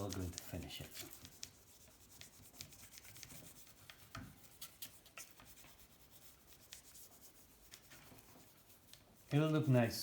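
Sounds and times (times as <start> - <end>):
hand polishing metal: 0.0 - 10.0.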